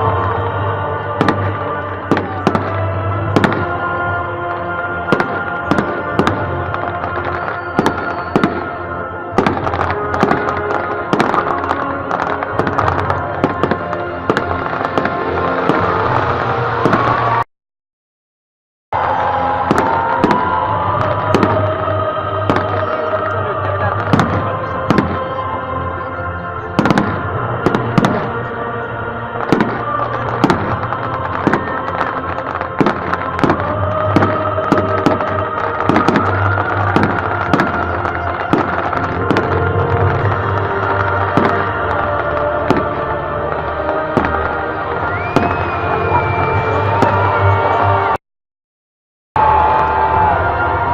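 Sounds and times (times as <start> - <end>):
music playing: 0.0 - 17.4, 19.0 - 48.2, 49.4 - 50.9
fireworks bangs: 1.1 - 4.0, 5.0 - 17.4, 19.0 - 25.4, 26.7 - 28.5, 29.4 - 48.1.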